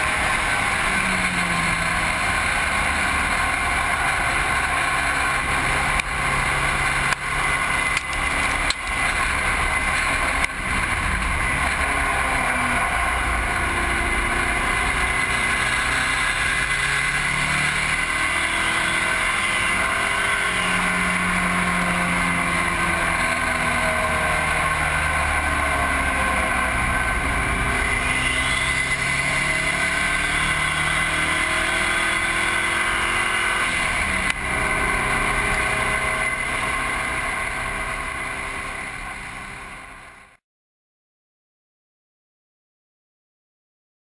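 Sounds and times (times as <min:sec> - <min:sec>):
race car engine revving: 0:00.0 - 0:40.3
wind and road noise: 0:00.0 - 0:40.4.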